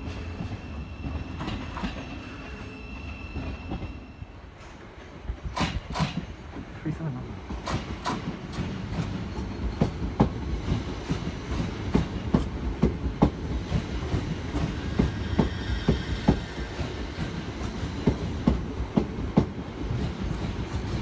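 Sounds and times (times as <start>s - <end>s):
train passing with low rumble: 0.0s - 21.0s.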